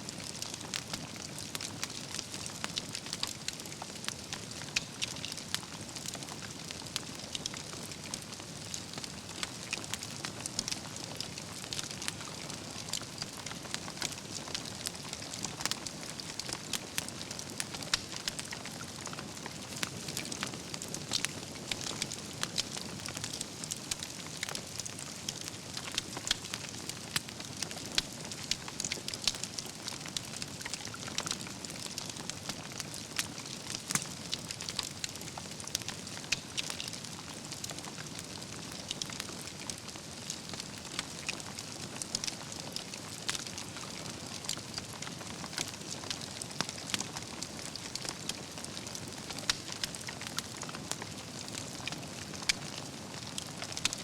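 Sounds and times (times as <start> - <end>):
wood fire crackling and popping: 0.1 - 54.0.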